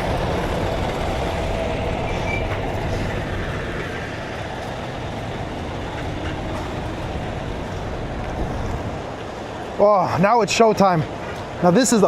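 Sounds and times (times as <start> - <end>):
truck diesel engines rumbling: 0.0 - 12.0.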